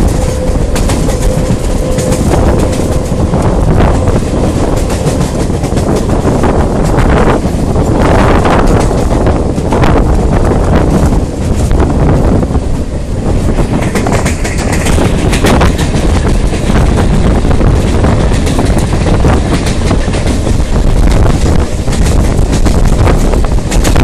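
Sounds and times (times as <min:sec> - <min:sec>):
train rumbling across a bridge: 0:00.0 - 0:24.0
wind buffeting microphone: 0:00.0 - 0:24.0.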